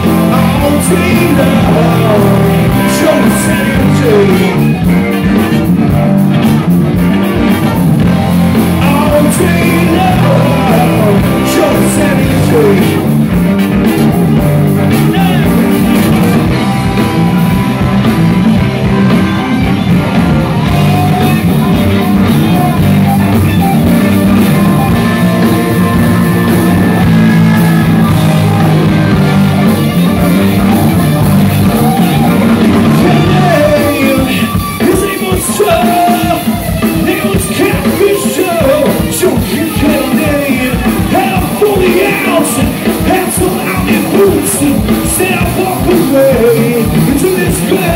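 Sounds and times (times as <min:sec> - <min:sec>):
bending lead guitar line: 0:00.0 - 0:47.9
live rock band with horns: 0:00.0 - 0:47.9.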